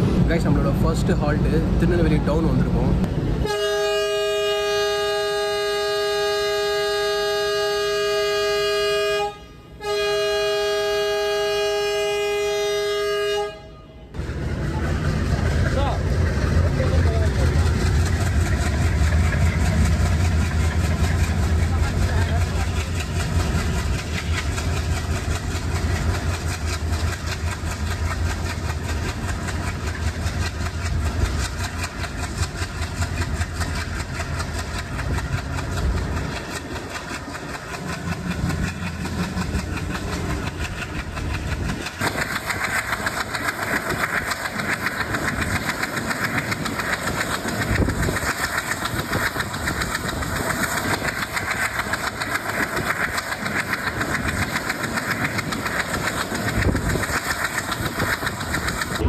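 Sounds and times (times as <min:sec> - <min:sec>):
locomotive engines rumbling: 0:00.0 - 0:59.0.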